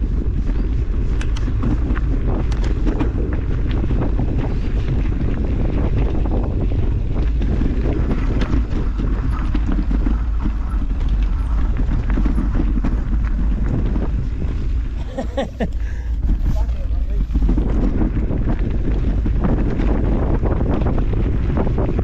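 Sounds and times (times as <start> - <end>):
bike tyres knocking and rattling on stones: 0.0 - 22.0
wind rumble on microphone: 0.0 - 22.0.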